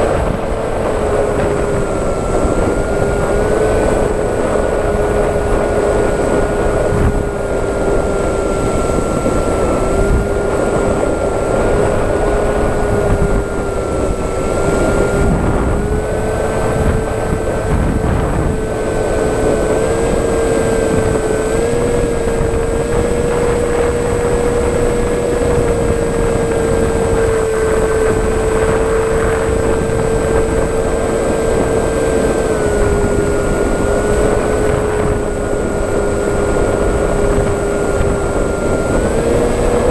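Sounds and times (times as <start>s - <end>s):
electric motor and propeller whining: 0.0s - 39.9s
wind rush on microphone: 0.0s - 39.9s.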